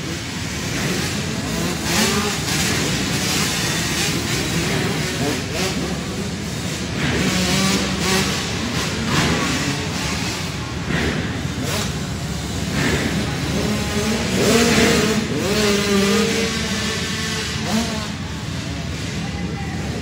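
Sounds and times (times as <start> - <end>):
dirt bikes revving: 0.0 - 20.0.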